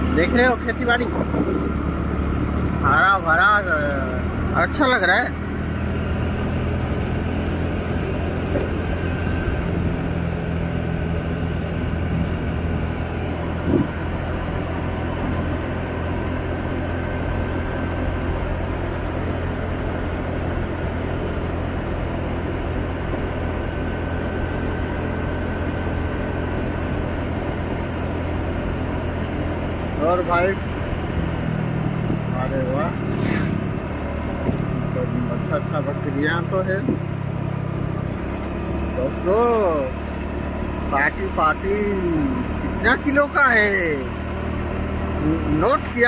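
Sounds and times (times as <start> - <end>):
motorbike engine cruising: 0.0 - 46.0
road and wind noise: 0.0 - 46.0.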